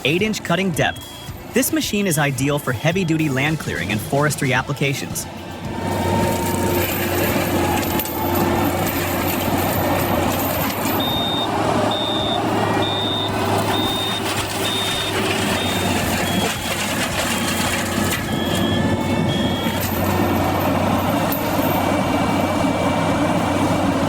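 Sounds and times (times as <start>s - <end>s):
reversing alarm beeping: 0.0s - 24.0s
heavy machine engine running: 2.4s - 24.0s.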